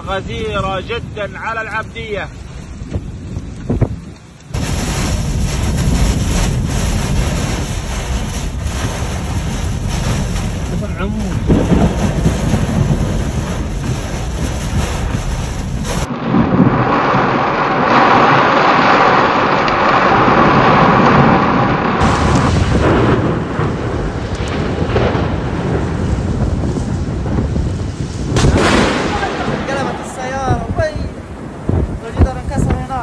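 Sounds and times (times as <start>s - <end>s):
heavy rain: 0.0s - 33.0s
strong wind: 0.0s - 33.0s.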